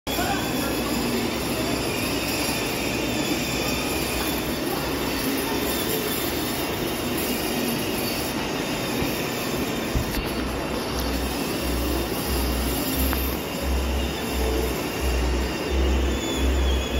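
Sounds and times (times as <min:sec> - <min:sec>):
small electric motor whining: 0:00.1 - 0:16.9.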